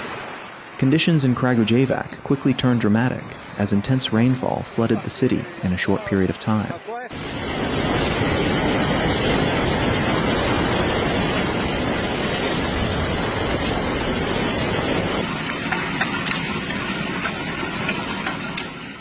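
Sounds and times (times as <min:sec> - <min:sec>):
torrential rain and flooding water: 0:00.0 - 0:19.0.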